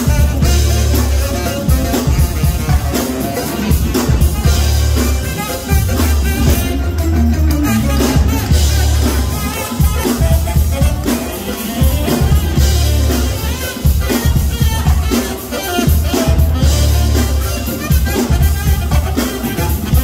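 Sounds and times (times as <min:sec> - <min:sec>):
drum kit: 0:00.0 - 0:20.0
heavy bass line: 0:00.0 - 0:20.0
saxophone playing: 0:00.0 - 0:20.0.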